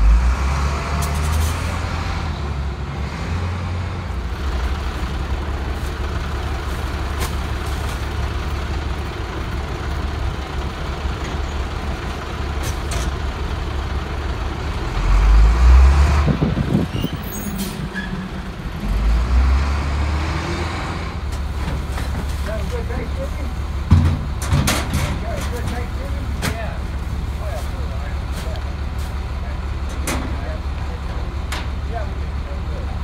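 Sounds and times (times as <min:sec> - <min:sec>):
garbage truck diesel engine: 0:00.0 - 0:33.0.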